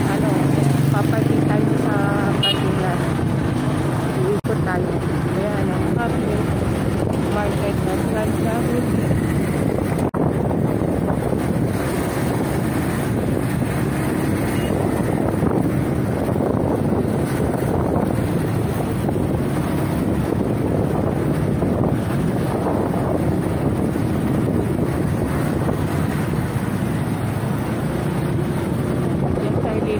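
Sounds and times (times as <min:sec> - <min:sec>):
engine and road rumble: 0:00.0 - 0:29.9
wind buffeting microphone: 0:00.0 - 0:29.9.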